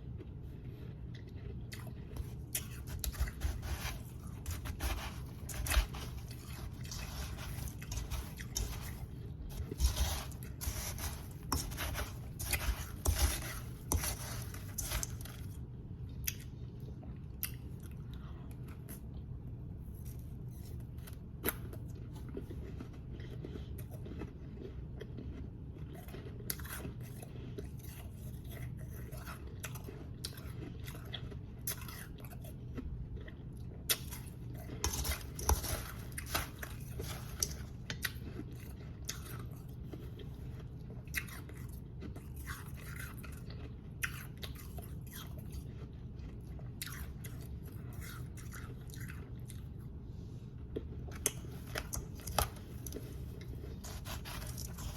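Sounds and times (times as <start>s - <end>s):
ice being chewed: 0.0s - 54.9s
steady low hum: 0.0s - 54.9s.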